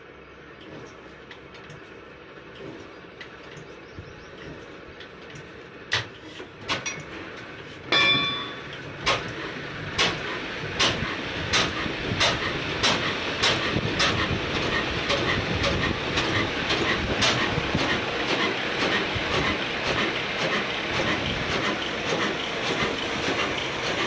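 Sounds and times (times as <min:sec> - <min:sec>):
diesel engine starting and firing: 0:00.6 - 0:07.8, 0:08.4 - 0:24.0.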